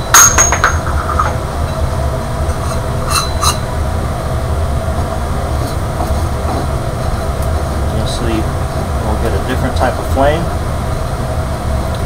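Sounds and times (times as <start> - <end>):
oil burner rumbling: 0.0 - 12.0.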